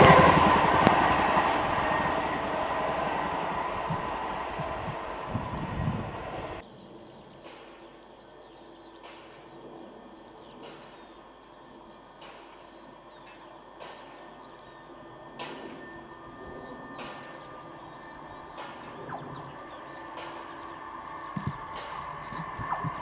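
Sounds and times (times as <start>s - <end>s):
approaching electric train hum: 0.0s - 23.0s.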